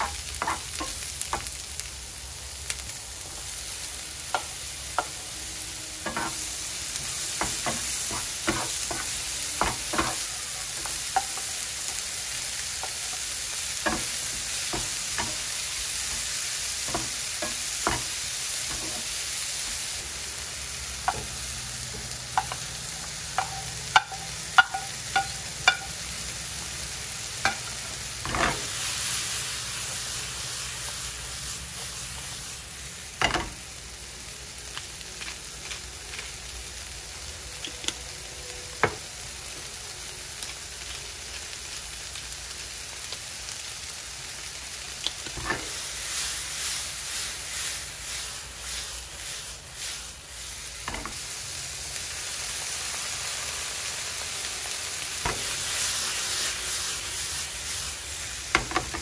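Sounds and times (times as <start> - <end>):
vegetables sizzling in frying pan: 0.0 - 59.0.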